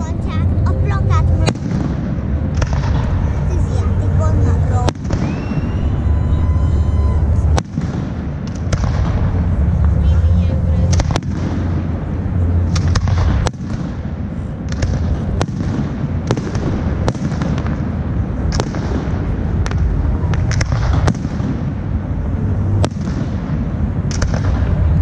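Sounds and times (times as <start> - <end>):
steady low rumble: 0.0 - 25.0
fireworks bangs and cracks: 0.1 - 5.7, 7.4 - 10.0, 10.8 - 25.0.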